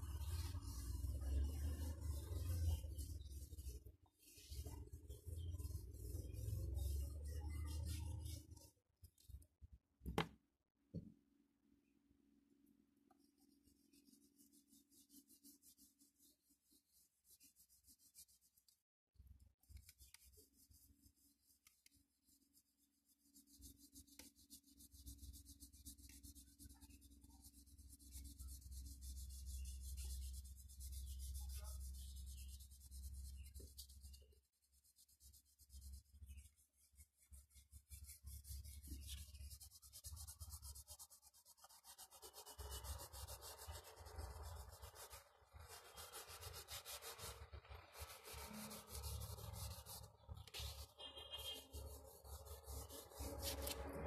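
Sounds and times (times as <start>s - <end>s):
crayon rubbing on paper: 0.0s - 8.7s, 13.3s - 18.8s, 19.7s - 54.0s.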